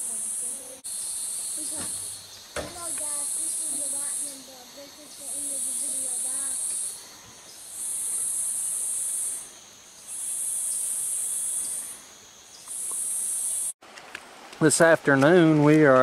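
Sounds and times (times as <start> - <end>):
high-pitched insect buzz: 0.0 - 13.8
faint steady insect hum: 0.0 - 15.5.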